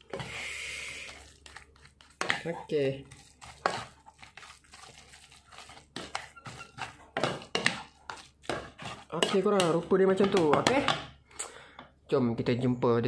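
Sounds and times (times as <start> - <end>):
utensils scraping bowl: 0.0 - 11.0.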